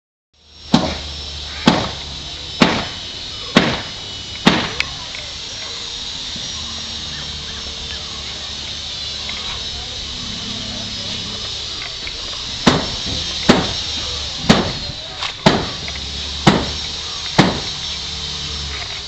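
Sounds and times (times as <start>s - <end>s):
heavy ringing hand tool blows: 0.4s - 19.0s.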